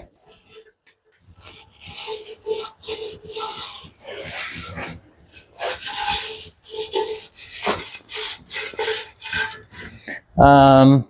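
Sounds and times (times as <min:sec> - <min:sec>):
brush scrubbing strokes: 0:00.0 - 0:10.1.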